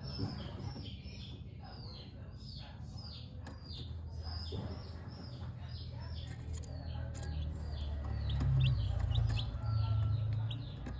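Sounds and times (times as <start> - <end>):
baby chicks peeping: 0.0 - 10.9.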